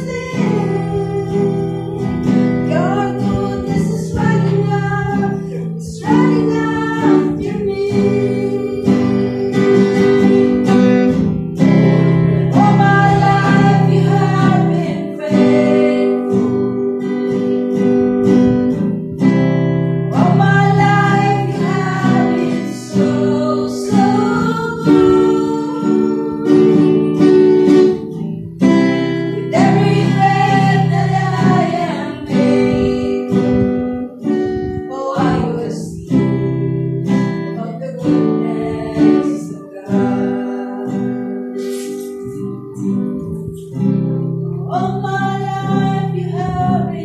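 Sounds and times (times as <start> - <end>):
women singing: 0.0 - 18.9, 19.9 - 47.0
acoustic guitar strumming: 0.0 - 47.0.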